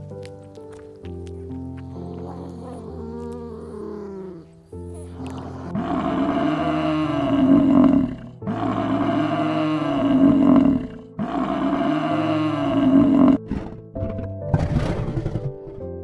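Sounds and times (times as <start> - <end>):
large animal roaring: 2.0 - 15.6.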